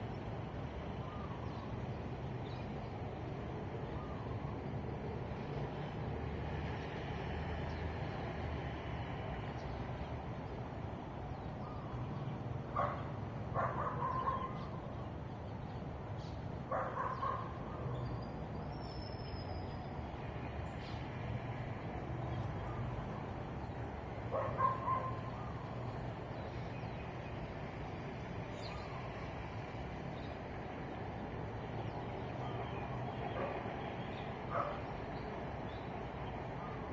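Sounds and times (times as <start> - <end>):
distant traffic hum: 0.0 - 36.9.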